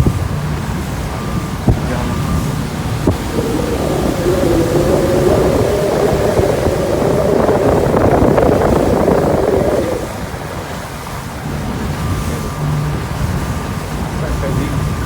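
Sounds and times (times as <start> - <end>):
motorboat engine running: 0.0 - 15.0
water rushing past hull: 0.0 - 15.0
wind on microphone: 0.0 - 15.0.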